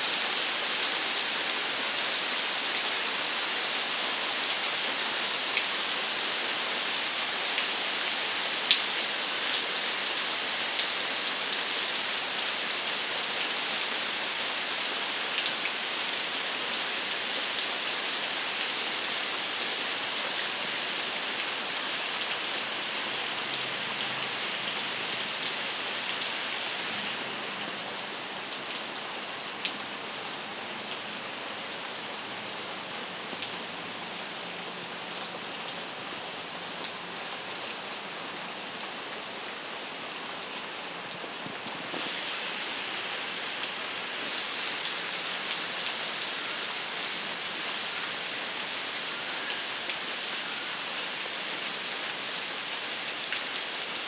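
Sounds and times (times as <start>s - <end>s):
rain falling on foliage: 0.0s - 54.0s.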